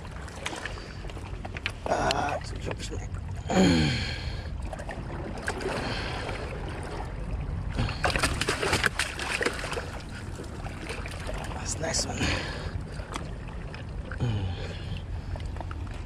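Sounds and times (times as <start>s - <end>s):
water lapping against rocks: 0.0s - 16.0s.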